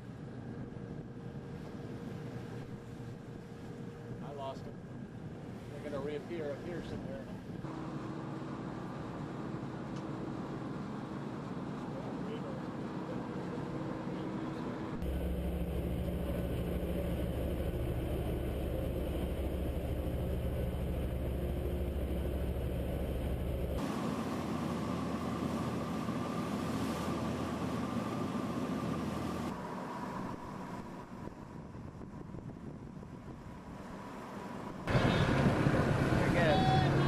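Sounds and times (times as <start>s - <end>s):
low machinery hum: 0.0s - 37.0s.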